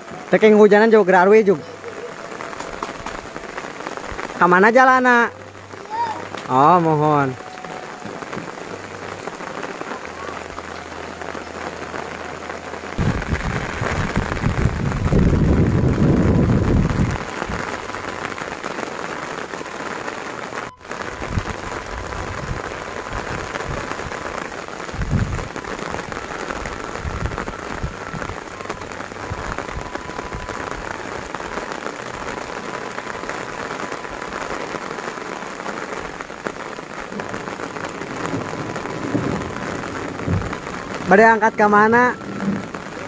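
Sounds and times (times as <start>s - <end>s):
heavy rain: 0.0s - 43.0s.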